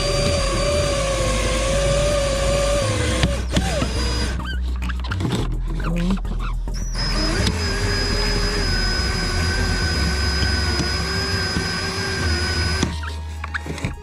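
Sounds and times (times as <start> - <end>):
motor whine: 0.0 - 4.5, 6.8 - 14.0.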